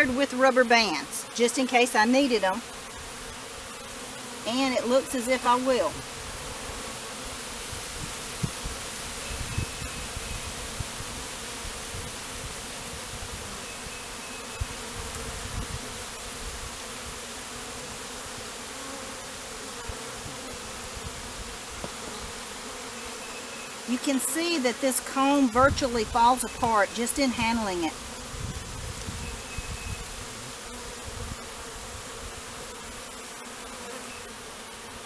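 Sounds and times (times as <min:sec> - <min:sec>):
honeybee swarm buzzing: 0:00.0 - 0:35.0.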